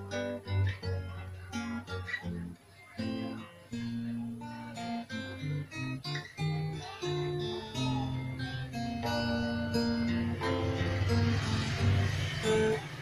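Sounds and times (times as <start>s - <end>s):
acoustic guitar melody: 0.0s - 13.0s.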